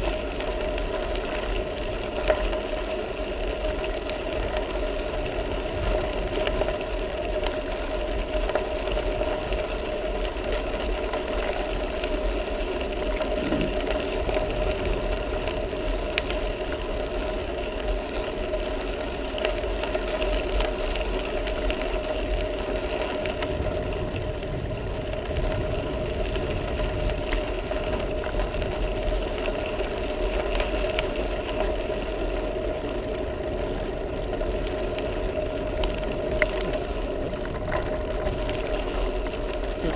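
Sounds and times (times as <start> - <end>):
bicycle tyres rolling on gravel: 0.0 - 39.9
constant mid-pitched hum: 0.0 - 39.9.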